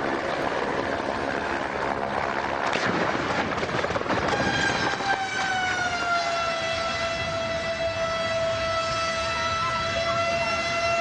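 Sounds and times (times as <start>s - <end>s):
helicopter noise: 0.0s - 11.0s.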